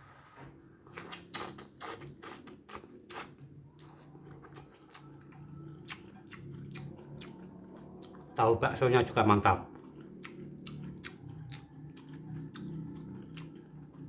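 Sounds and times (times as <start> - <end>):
wet chewing and mouth smacks: 0.9 - 8.4, 9.7 - 14.0.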